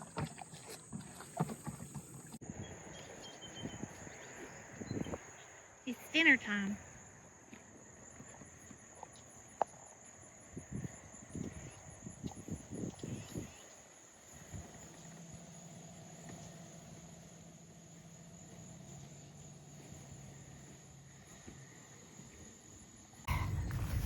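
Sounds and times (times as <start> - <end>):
insect chirring: 2.9 - 24.0.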